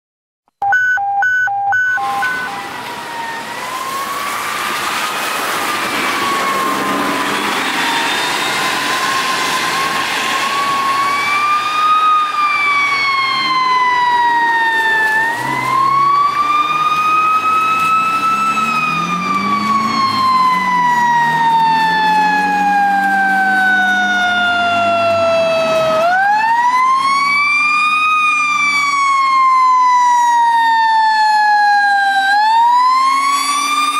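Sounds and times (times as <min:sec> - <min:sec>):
mechanical siren wailing: 0:00.6 - 0:33.9
truck engine: 0:01.8 - 0:30.2.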